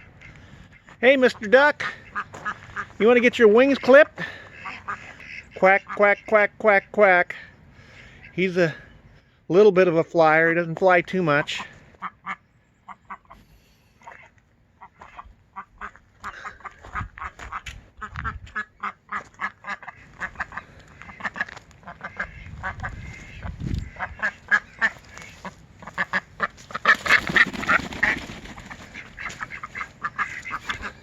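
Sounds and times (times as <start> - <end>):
ducks quacking: 0.0 - 9.4, 10.2 - 31.0.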